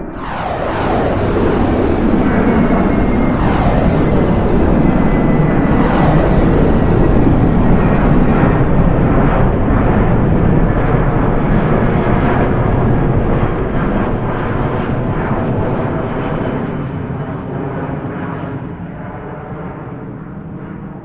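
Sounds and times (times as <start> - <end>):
jet engine rumble: 0.0 - 19.9.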